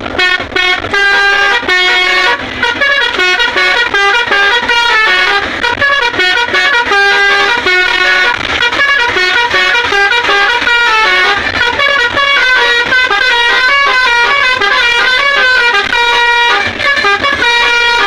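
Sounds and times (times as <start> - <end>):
multi-tone musical bus horn: 0.0 - 18.0.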